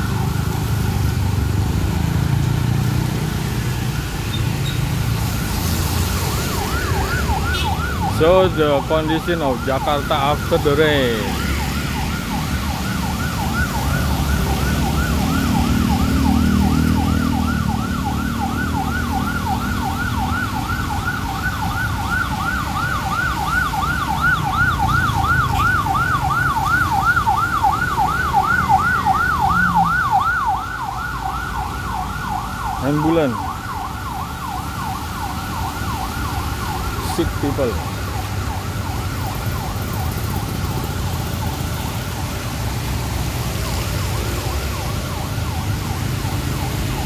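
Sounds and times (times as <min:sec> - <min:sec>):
ambulance siren yelping: 0:00.0 - 0:47.0
passing traffic rumble: 0:00.0 - 0:47.0.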